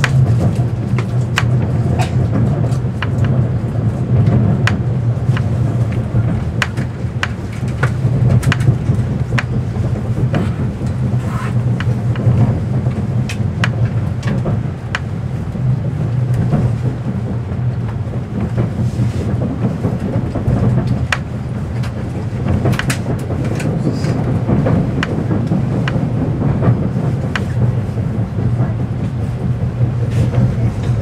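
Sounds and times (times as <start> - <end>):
train bogies rumbling: 0.0 - 31.0
wheels clicking over rail joints: 0.0 - 31.0.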